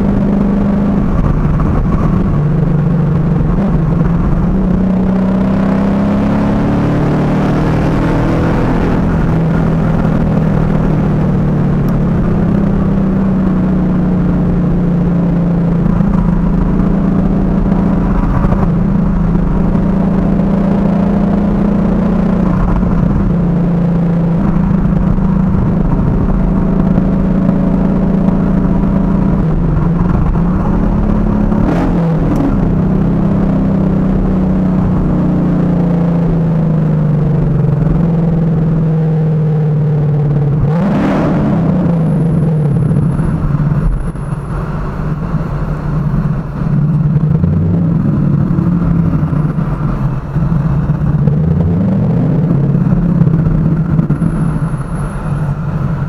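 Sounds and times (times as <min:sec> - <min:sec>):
car engine accelerating and cruising: 0:00.0 - 0:56.0.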